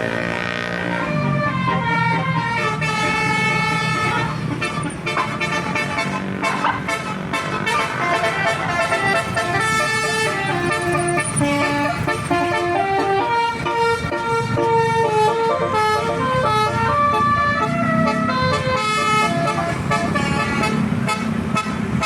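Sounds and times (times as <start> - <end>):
engine and road rumble: 0.0 - 22.0
multi-tone bus horn tune: 0.0 - 22.0.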